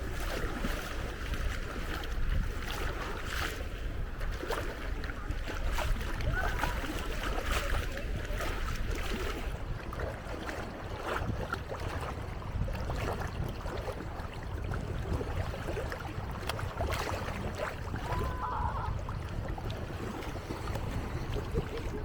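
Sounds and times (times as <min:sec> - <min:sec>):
water lapping at shore: 0:00.0 - 0:22.0
wind buffeting microphone: 0:00.0 - 0:22.0.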